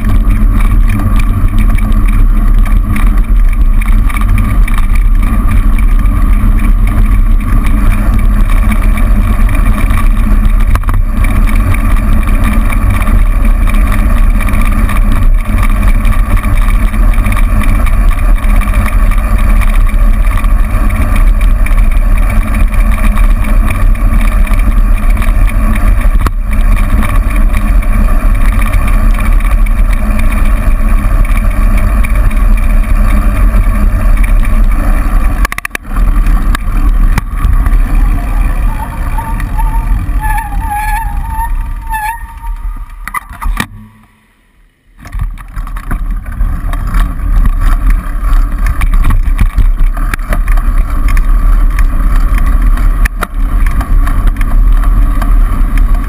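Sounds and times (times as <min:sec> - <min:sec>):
motor traffic: 0:00.0 - 0:56.0
wind and road noise rumble: 0:00.0 - 0:56.0.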